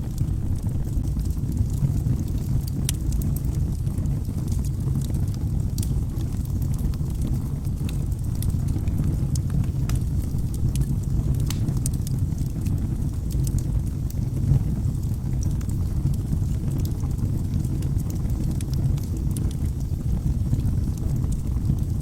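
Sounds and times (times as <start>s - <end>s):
logs crackling and popping: 0.0s - 22.0s
wood fire burning: 0.0s - 22.0s.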